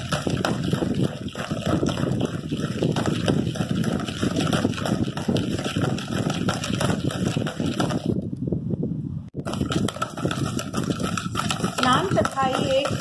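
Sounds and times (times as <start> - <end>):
spoon beating in plastic bowl: 0.0 - 8.2, 9.4 - 13.0.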